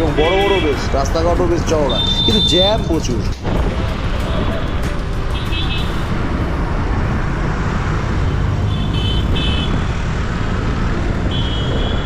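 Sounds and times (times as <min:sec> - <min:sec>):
traffic rumble and road noise: 0:00.0 - 0:12.0.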